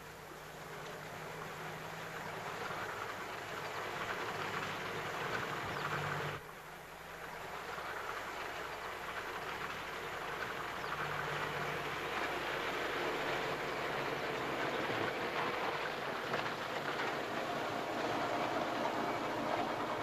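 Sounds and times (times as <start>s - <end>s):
car approaching on dirt road: 0.0s - 20.0s.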